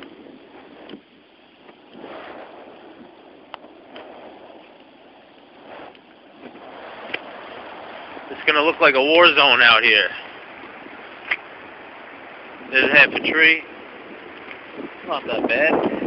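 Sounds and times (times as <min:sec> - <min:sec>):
storm wind rushing through trees: 0:00.0 - 0:16.0.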